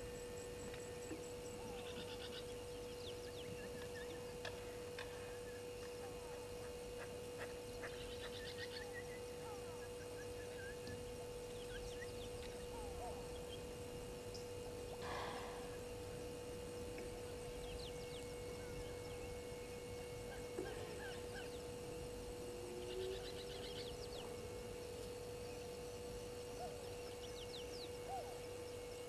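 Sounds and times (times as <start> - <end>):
pulsed bird trills: 0.0 - 29.0
steady low hum: 0.0 - 29.0.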